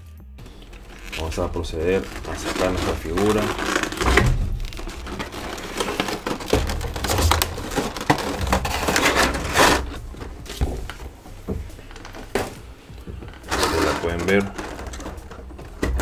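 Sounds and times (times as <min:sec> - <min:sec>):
plastic and cardboard crinkling: 0:00.4 - 0:16.0.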